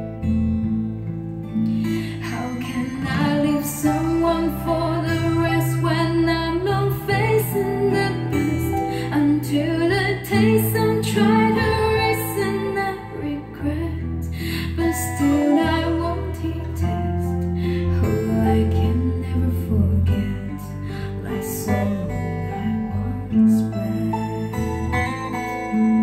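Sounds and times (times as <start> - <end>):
held bass notes: 0.0 - 26.0
woman singing: 1.8 - 26.0.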